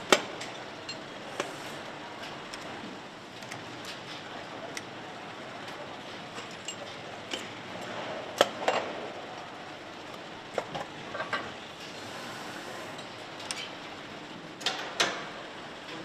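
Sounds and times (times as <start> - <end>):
factory background noise: 0.0 - 16.0.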